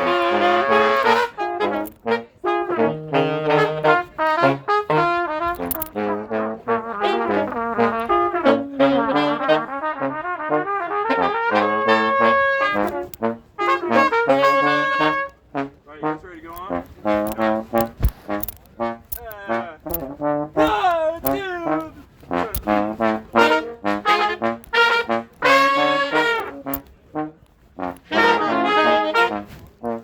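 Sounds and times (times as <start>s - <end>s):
trumpets and trombones playing: 0.0s - 30.0s.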